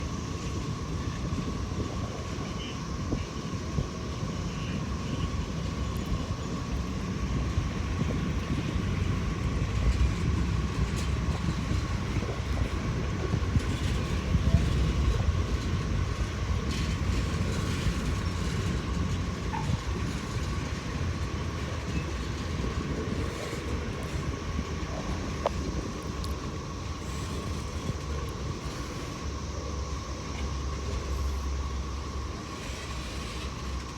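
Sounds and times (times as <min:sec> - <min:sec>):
distant cicadas droning: 0:00.0 - 0:33.9
freight train rumbling: 0:00.0 - 0:33.9.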